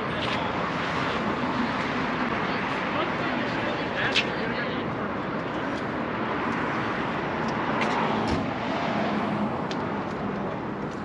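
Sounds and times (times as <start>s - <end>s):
crowd noise: 0.0s - 9.5s
vehicle noise: 0.0s - 11.0s.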